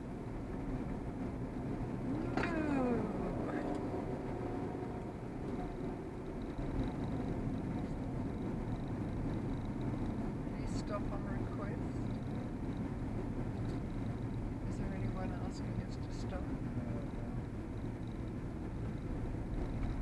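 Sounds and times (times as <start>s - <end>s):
car tyre and engine noise: 0.0s - 20.0s.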